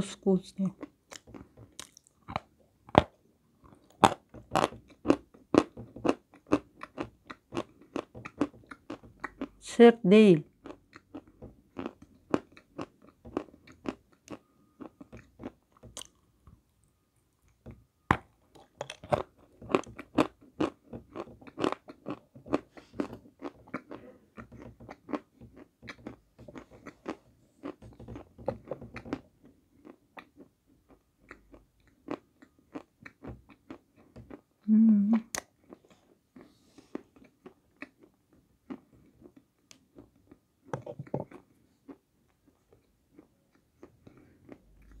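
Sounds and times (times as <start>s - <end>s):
crunching and chewing chalk: 0.8s - 9.7s, 10.4s - 34.7s, 35.3s - 45.0s.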